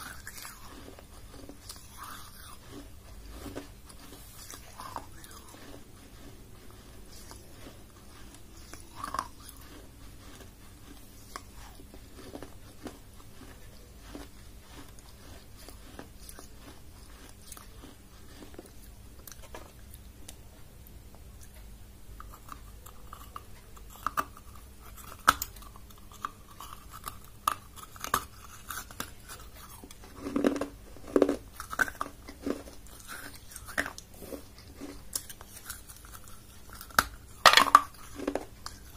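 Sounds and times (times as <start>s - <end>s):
chewing and crunching clay: 0.0s - 20.1s, 22.2s - 38.9s.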